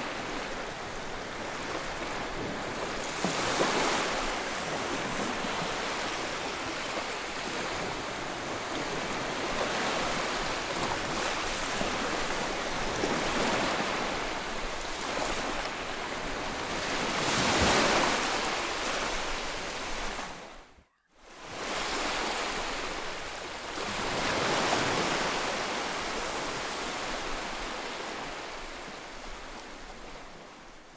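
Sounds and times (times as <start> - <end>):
sea waves washing onto shore: 0.0 - 20.5, 21.4 - 30.6.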